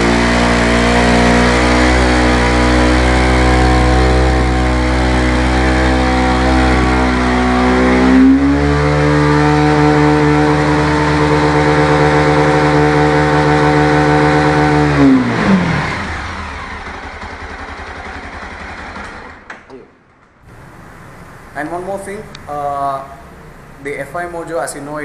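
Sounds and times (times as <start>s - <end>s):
motorcycle engine revving: 0.0s - 19.6s, 20.4s - 25.0s.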